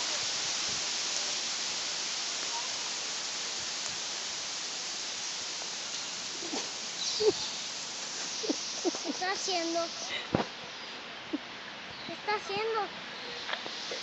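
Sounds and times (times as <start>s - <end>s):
wind through foliage: 0.0s - 14.0s.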